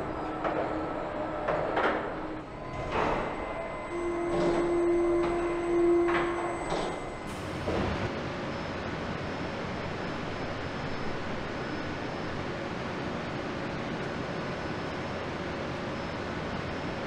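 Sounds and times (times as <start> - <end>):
factory hiss and hum: 0.0 - 17.0.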